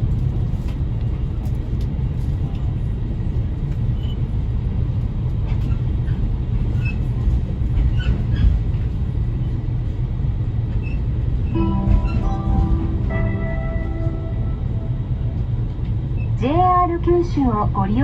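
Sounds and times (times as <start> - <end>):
train low rumble from inside: 0.0 - 18.0.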